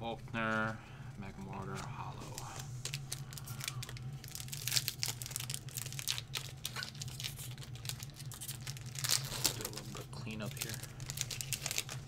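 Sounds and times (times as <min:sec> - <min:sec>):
low steady hum: 0:00.0 - 0:12.0
foil wrapper crinkling: 0:01.4 - 0:12.0.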